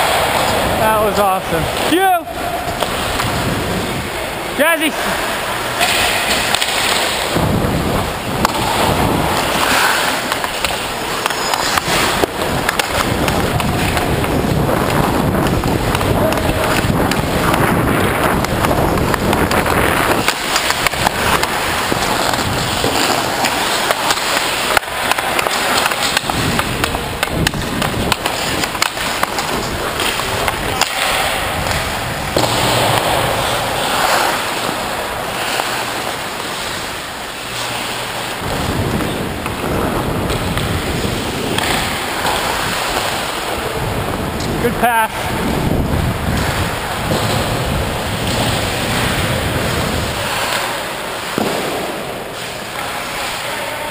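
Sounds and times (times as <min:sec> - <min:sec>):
skate blades scraping ice: 0:00.0 - 0:53.9.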